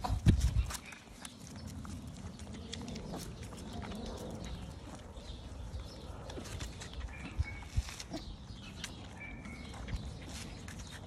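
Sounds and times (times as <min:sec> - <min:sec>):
puppies sucking and smacking: 0:00.0 - 0:11.0.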